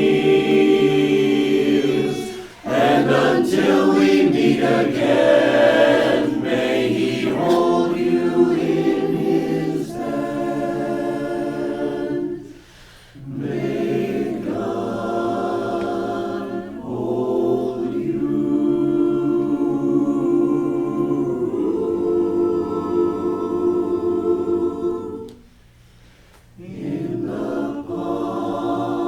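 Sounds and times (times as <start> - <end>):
a cappella chorus singing: 0.0 - 29.0.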